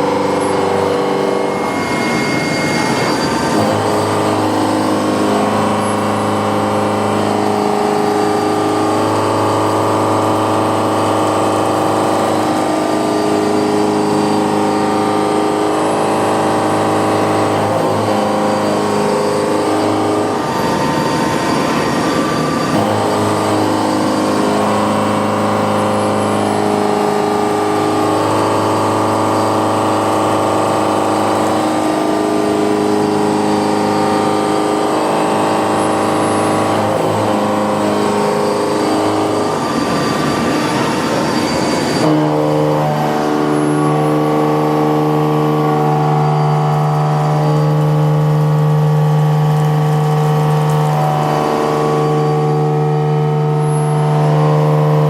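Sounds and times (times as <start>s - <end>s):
milling cutter cutting metal: 0.0s - 55.0s.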